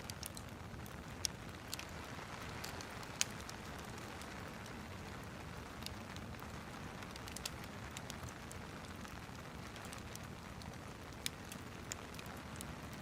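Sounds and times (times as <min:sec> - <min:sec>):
steady rain hiss: 0:00.0 - 0:13.0
wood fire crackling: 0:00.0 - 0:13.0.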